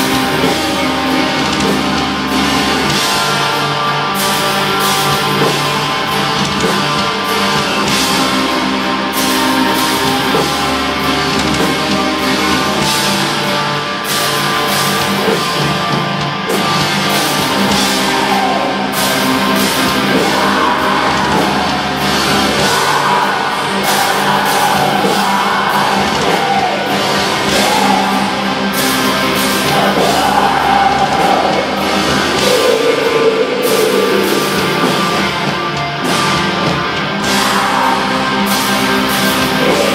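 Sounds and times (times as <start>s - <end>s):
distorted guitars: 0.0s - 39.9s
drums: 0.0s - 39.9s.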